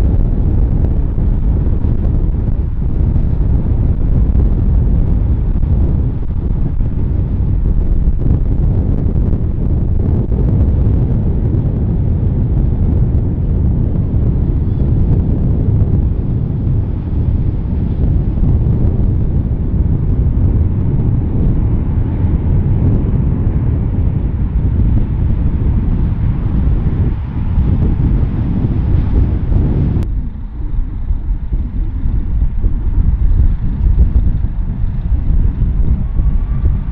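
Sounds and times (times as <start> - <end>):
jet engines roaring: 0.0 - 36.9
wind buffeting microphone: 0.0 - 36.9.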